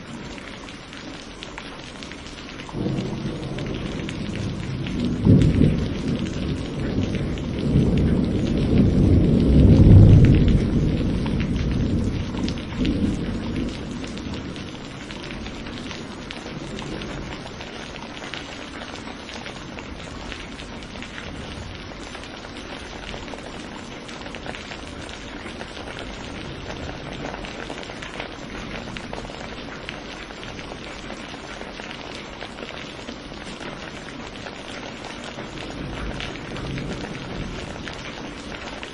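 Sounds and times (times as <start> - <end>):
heavy rain falling: 0.0 - 38.9
thunder rumbling: 2.6 - 31.7, 34.9 - 38.9.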